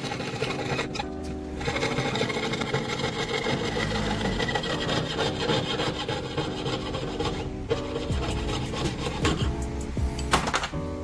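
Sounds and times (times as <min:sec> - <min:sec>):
hand tool rasping against metal: 0:00.0 - 0:09.7
background music: 0:00.0 - 0:11.0.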